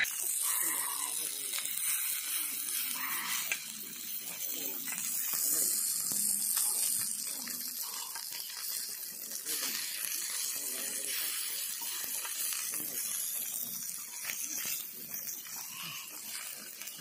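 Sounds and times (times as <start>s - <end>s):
fish sizzling on griddle: 0.0s - 17.0s.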